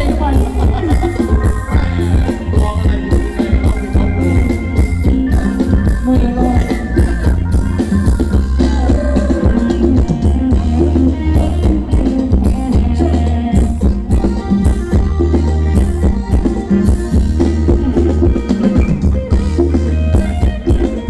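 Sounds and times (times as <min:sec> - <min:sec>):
drum kit beat: 0:00.0 - 0:21.0
heavy bass line: 0:00.0 - 0:21.0
live band dance music: 0:00.0 - 0:21.0.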